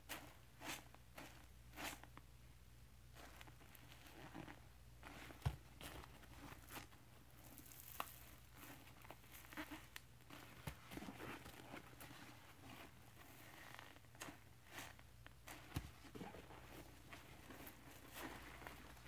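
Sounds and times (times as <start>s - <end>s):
sponges squishing in paste: 3.1s - 19.0s.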